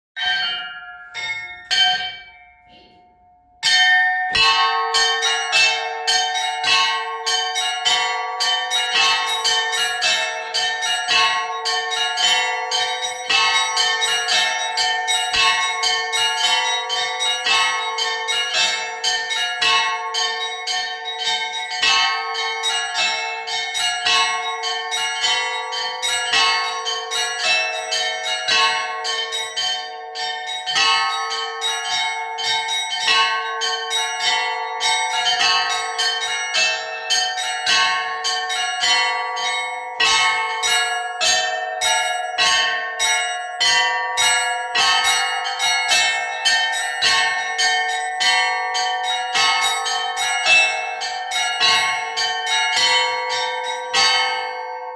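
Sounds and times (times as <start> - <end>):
low bell ringing: 0.2 - 54.9
small church bells struck rapidly: 0.2 - 54.9.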